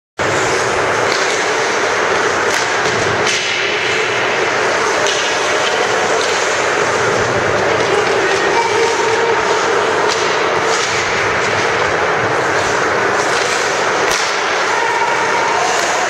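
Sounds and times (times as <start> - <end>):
skate blades scraping ice: 0.2 - 16.0
sticks knocking puck: 1.0 - 6.9, 7.5 - 16.0.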